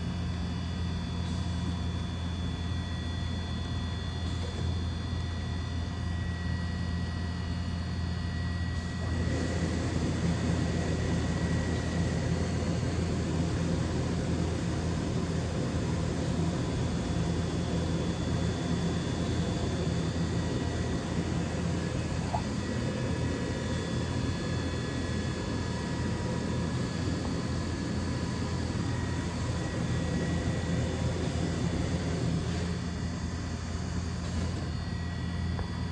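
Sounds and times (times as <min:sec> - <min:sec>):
machine hum with high whine: 0:00.0 - 0:35.9.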